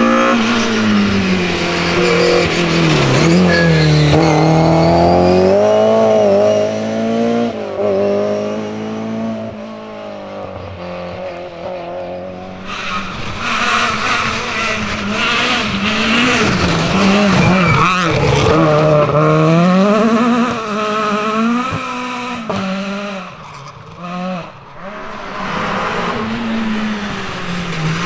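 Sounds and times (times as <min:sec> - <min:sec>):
rally car engine revving: 0:00.0 - 0:28.0
second rally car approaching: 0:00.0 - 0:28.0.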